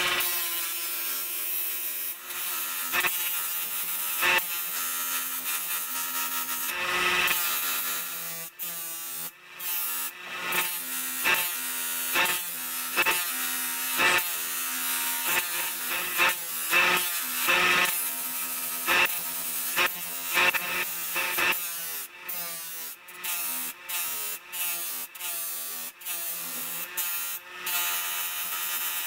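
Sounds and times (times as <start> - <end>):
bench grinder motor humming: 0.0 - 29.0
metal grinding rasp: 0.0 - 29.0.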